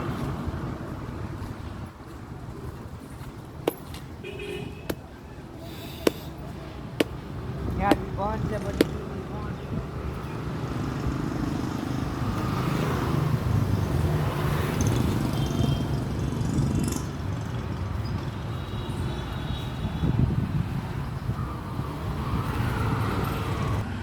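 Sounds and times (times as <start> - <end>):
road traffic rumbling: 0.0 - 24.0.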